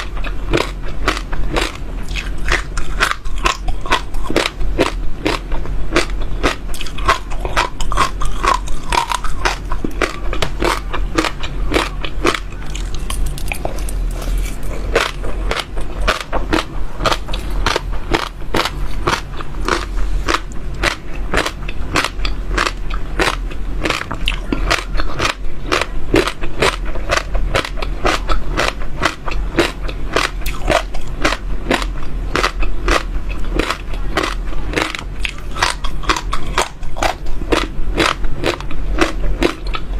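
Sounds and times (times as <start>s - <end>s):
seeds crunched while chewing: 0.0s - 39.8s.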